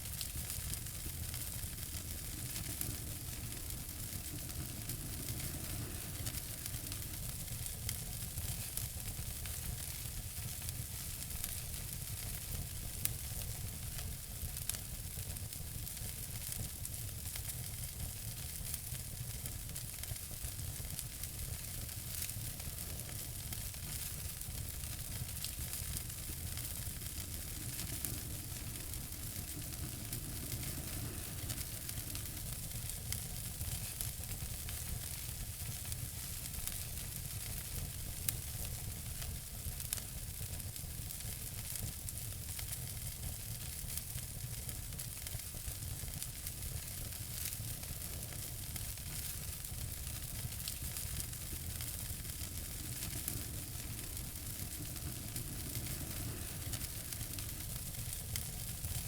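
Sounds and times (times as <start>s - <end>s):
small fire pops: 0.0s - 59.0s
wood fire crackling: 0.0s - 59.0s.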